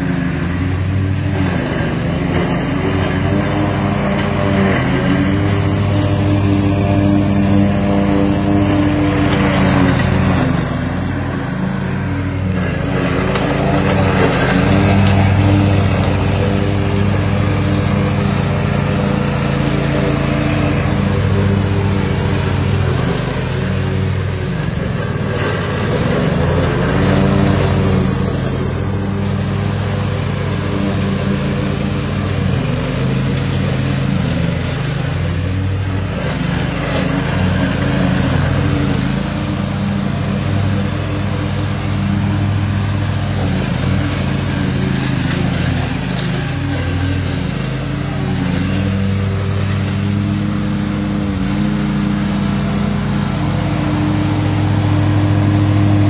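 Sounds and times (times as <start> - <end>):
small petrol mower engine running: 0.0 - 56.0.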